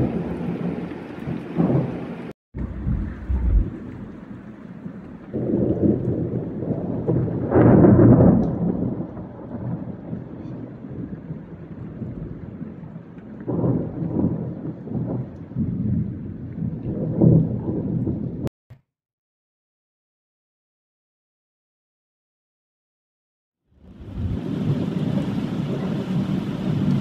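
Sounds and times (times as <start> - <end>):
heavy rain: 0.0 - 18.5, 23.8 - 27.0
thunder rumbling: 0.0 - 18.5, 23.8 - 27.0.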